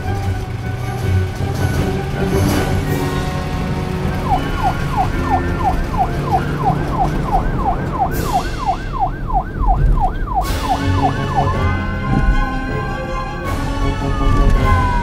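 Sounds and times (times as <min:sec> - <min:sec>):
police siren yelping: 0:02.8 - 0:15.0.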